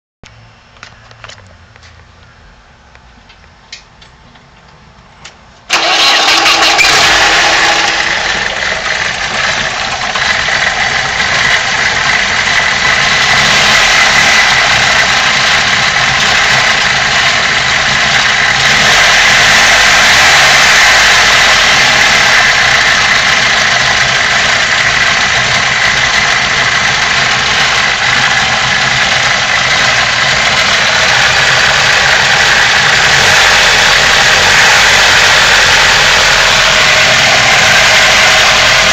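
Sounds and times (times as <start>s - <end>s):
engine starting and idling roughly: 5.7s - 38.9s.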